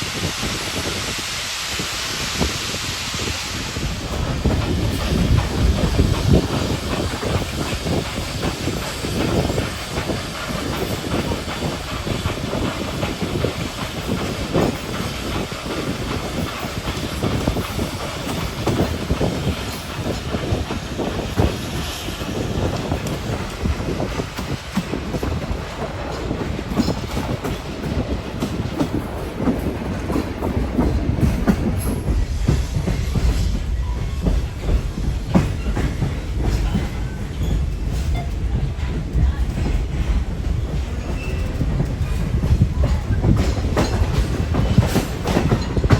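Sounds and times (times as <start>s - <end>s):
steam hissing: 0.0s - 45.9s
train rumble: 0.0s - 45.9s
wheels knocking on rails: 4.0s - 45.9s.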